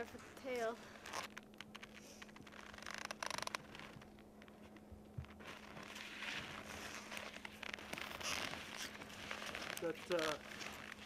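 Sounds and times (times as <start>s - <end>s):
clothing and gear rustling: 0.0s - 11.0s.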